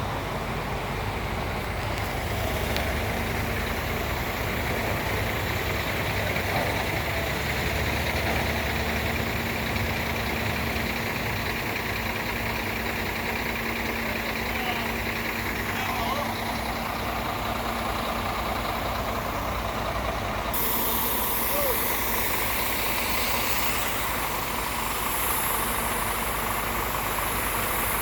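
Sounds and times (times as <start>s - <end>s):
diesel engine running steadily: 0.0s - 28.0s.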